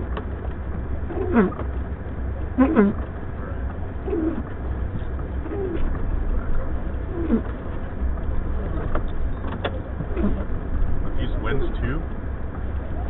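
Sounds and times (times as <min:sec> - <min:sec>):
blizzard wind buffeting car: 0:00.0 - 0:13.0.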